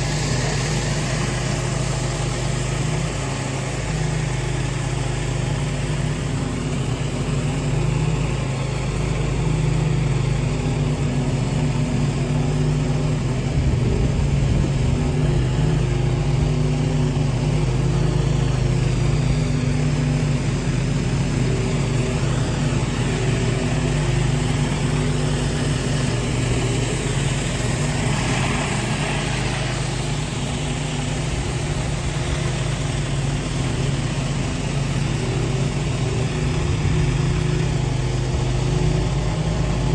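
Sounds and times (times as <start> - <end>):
pressure washer engine running: 0.0 - 39.9
water spray hissing on concrete: 0.0 - 39.9.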